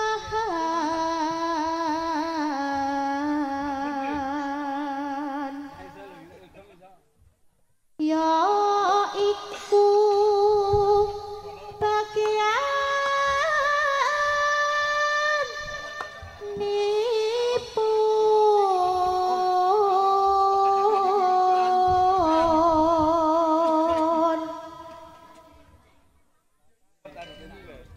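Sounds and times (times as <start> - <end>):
woman singing over loudspeaker: 0.0 - 5.8, 8.0 - 25.3.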